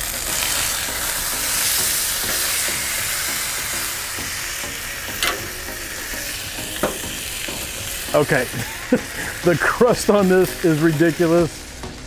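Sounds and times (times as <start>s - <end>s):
steak sizzling on a griddle: 0.0s - 12.0s.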